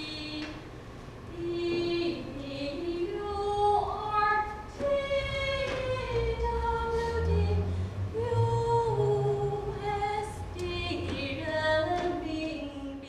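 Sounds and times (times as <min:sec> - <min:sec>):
low tones: 0:01.2 - 0:13.0
woman singing long notes: 0:01.3 - 0:13.0.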